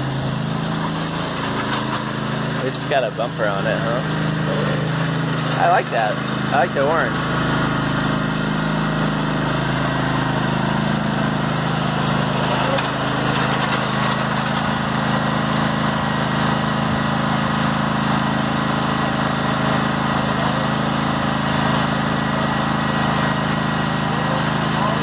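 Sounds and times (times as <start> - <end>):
riding lawn mower engine: 0.0 - 25.0.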